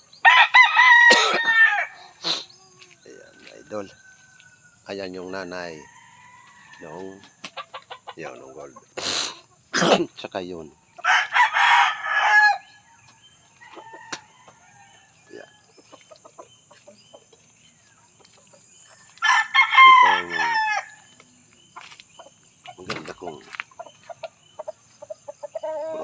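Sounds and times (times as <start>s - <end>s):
roosters crowing: 0.0s - 16.4s, 18.6s - 21.2s, 21.8s - 26.0s.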